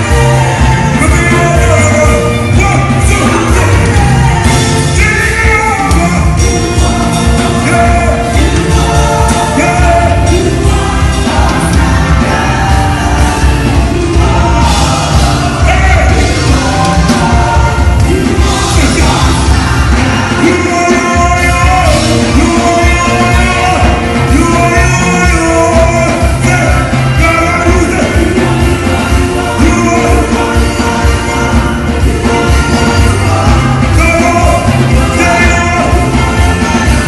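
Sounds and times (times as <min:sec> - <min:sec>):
loud music with singing: 0:00.0 - 0:37.0.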